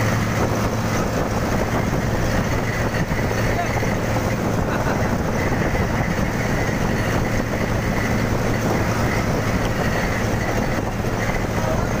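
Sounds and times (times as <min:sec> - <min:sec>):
road and wind noise: 0:00.0 - 0:12.0
vehicle engine hum: 0:00.0 - 0:12.0.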